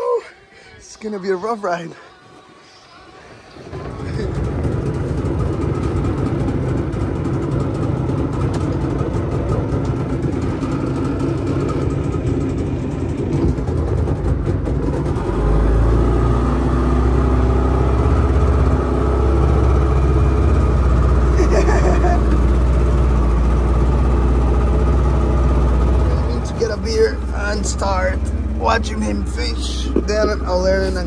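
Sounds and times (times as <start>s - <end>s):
wind: 0.0s - 31.0s
outboard motor running: 3.7s - 31.0s.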